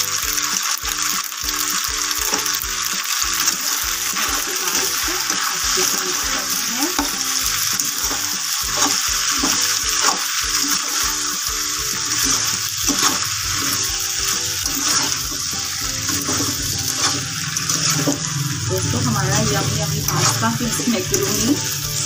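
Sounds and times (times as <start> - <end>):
sizzling hiss: 0.0 - 22.0
spatula scraping a frying pan: 2.0 - 22.0.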